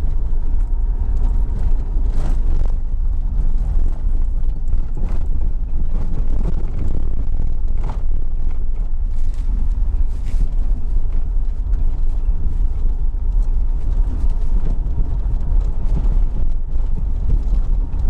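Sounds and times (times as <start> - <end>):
vehicle road rumble on dirt track: 0.0 - 18.0.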